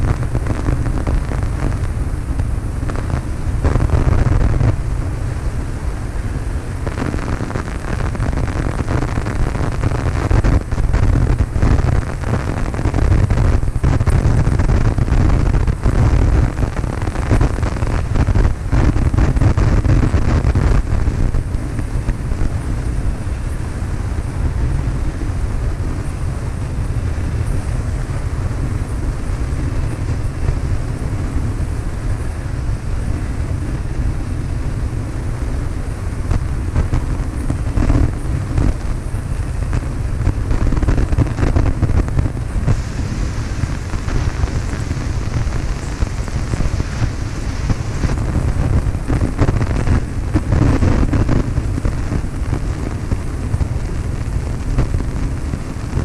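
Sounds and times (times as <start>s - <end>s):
airplane engine droning: 0.0s - 56.0s
wind noise on microphone: 0.0s - 56.0s.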